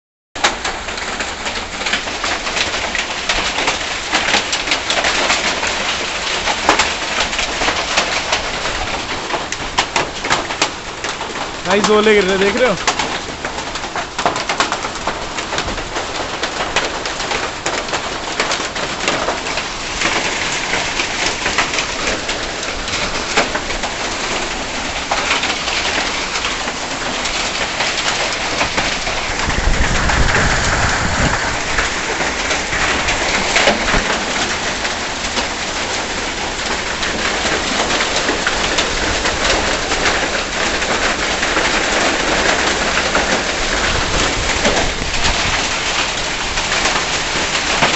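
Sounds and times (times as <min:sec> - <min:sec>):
hail and heavy rain clattering: 0:00.4 - 0:47.9.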